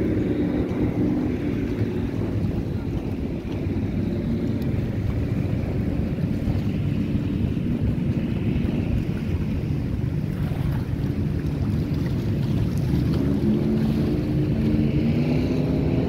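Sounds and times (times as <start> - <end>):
choppy water washing: 0.0 - 16.0
motorboat engine drone: 0.0 - 16.0
wind buffeting microphone: 0.0 - 16.0.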